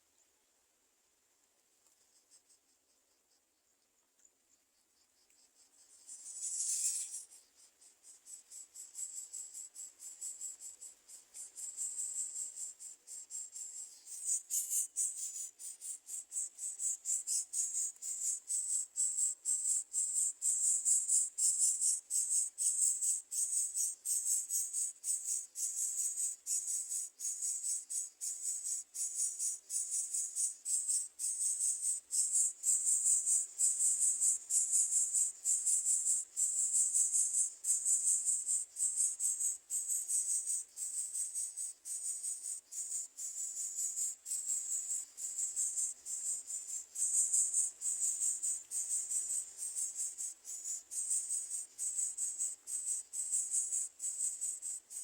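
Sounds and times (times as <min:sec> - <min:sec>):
insects chirping: 0:01.8 - 0:55.0.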